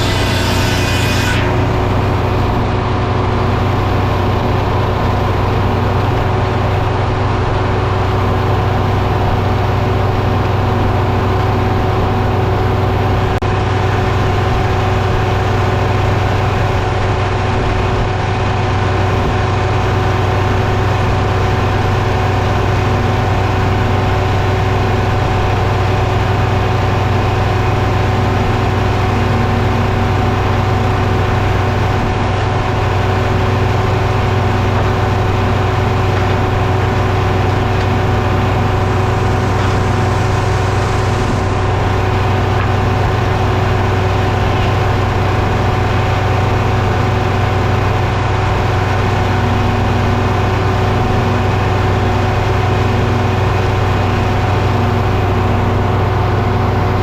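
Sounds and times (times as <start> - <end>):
engine droning: 0.0 - 57.0
high whine: 0.0 - 57.0.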